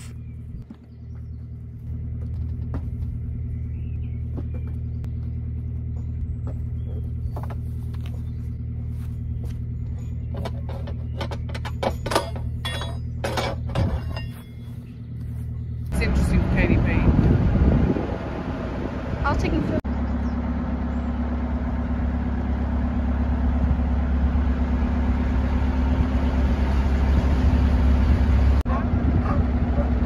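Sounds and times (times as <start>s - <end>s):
low hum of held tones: 0.1s - 26.6s.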